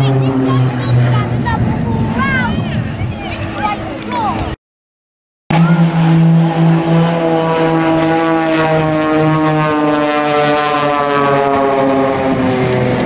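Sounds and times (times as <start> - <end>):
propeller planes flying overhead: 0.0 - 4.6, 5.5 - 13.0.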